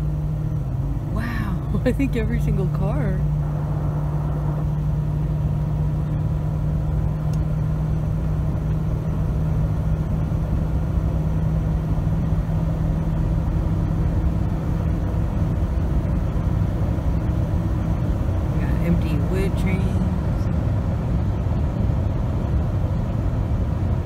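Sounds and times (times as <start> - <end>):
constant hum: 0.0 - 24.0
road and engine drone in car: 0.0 - 24.0.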